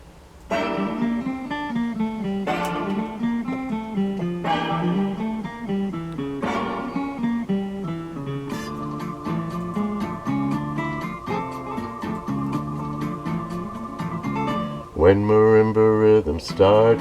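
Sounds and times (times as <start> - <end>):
guitar playing: 0.5 - 17.0.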